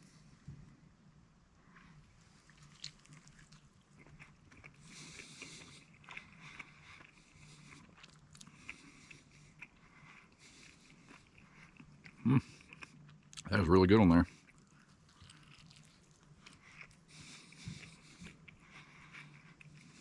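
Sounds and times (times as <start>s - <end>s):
faint biting and chewing: 1.6s - 13.5s, 14.2s - 20.0s.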